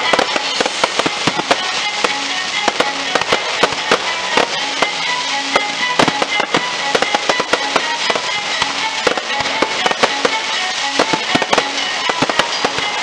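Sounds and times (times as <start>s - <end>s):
fireworks bangs and crackling: 0.0s - 13.0s
music playing: 0.0s - 13.0s.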